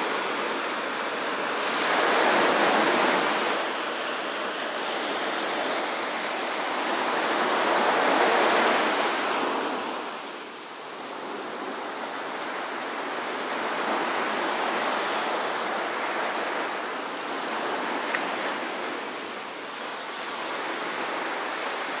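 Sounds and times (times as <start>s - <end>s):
waves washing up a sandy beach: 0.0s - 22.0s.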